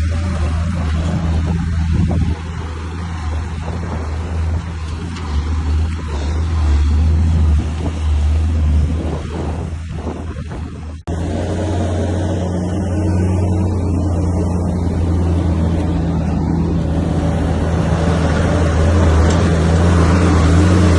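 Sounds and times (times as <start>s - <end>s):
heavy diesel engine droning: 0.0s - 20.9s.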